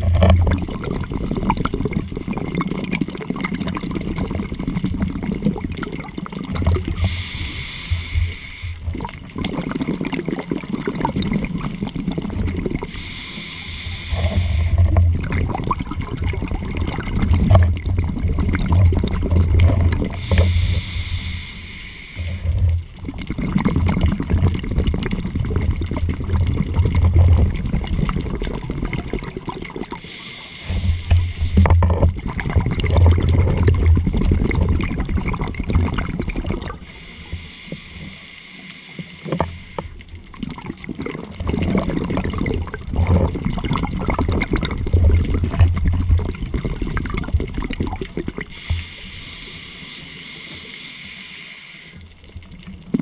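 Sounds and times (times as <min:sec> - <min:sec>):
underwater exhaled bubbles gurgling: 0:00.0 - 0:53.0.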